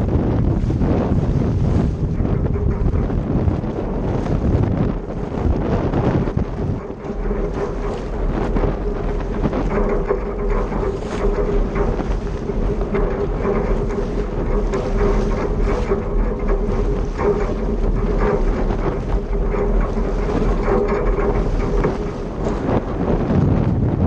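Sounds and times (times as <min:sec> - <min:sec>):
steady hum: 0:00.0 - 0:24.0
water splashing against hull: 0:00.0 - 0:24.0
wind buffeting microphone: 0:00.0 - 0:24.0.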